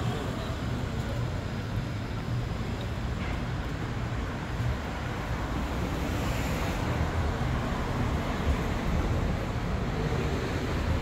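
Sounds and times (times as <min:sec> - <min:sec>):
city street background noise: 0:00.0 - 0:11.0.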